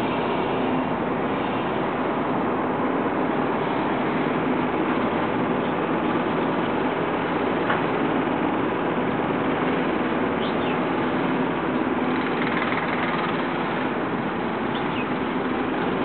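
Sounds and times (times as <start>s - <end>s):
mechanical engine drone: 0.0s - 16.0s.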